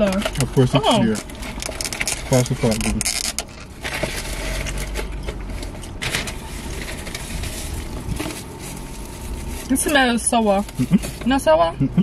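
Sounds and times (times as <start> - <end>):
car engine hum inside cabin: 0.0 - 12.0
paper wrappers crinkling: 0.1 - 11.4.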